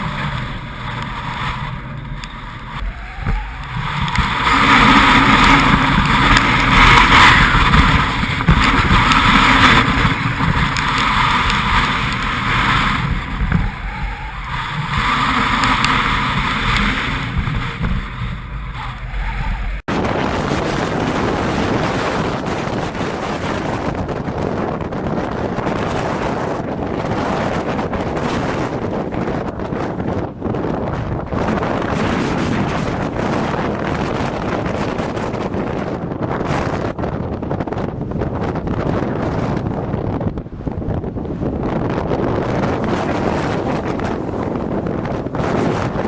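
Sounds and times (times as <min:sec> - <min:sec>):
strong wind buffeting microphone: 0:00.0 - 0:46.0.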